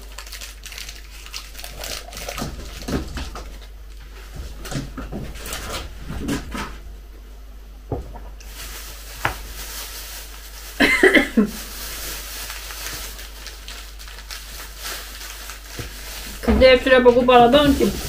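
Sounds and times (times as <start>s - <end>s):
plastic bag rustling and crinkling: 0.0s - 6.8s, 8.4s - 18.0s.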